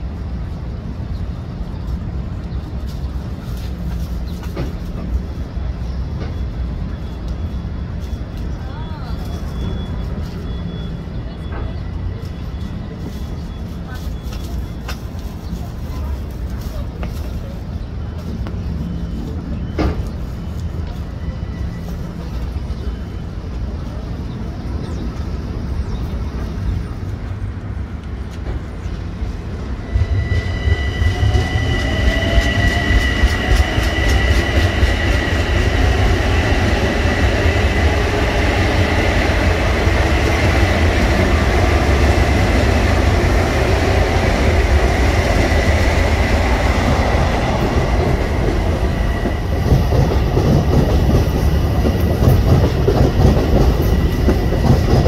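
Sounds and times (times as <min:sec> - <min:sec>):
high train whine: 0:00.0 - 0:55.0
train wheels rumbling and clicking: 0:00.0 - 0:55.0.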